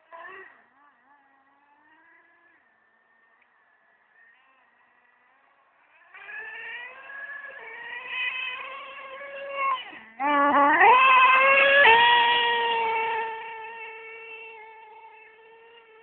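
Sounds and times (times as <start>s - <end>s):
rc truck engine whining: 0.0s - 16.0s.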